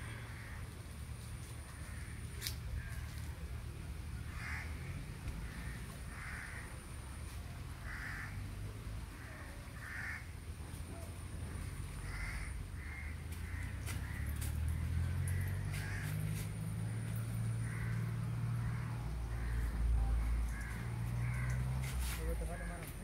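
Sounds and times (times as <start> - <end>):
low background noise: 0.0 - 23.0.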